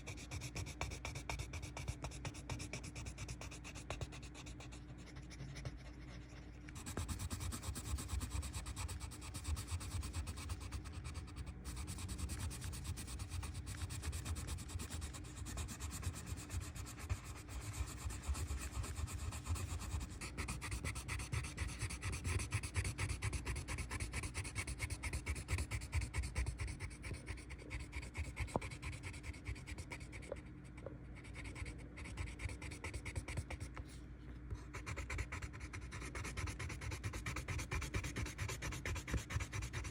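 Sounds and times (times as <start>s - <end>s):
pencil scratching on paper: 0.0s - 33.9s, 34.6s - 39.9s.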